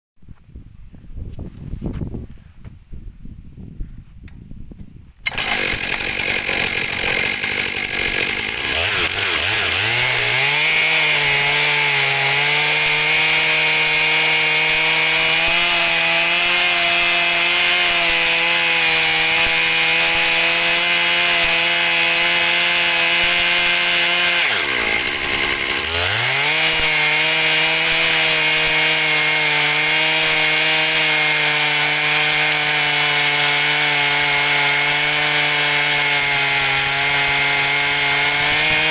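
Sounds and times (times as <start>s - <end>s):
chainsaw cutting log: 5.2s - 38.9s.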